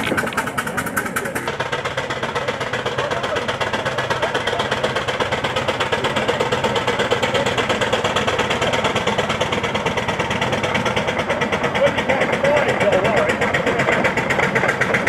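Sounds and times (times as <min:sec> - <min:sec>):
steam engine exhaust chuffing: 0:00.0 - 0:15.0.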